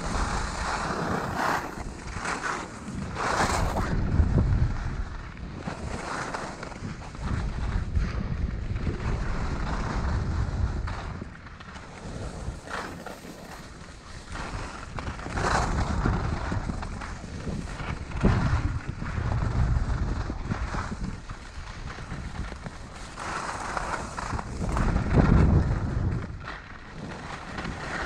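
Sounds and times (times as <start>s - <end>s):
skis scraping over snow: 0.0s - 28.0s
wind buffeting microphone: 0.0s - 28.0s.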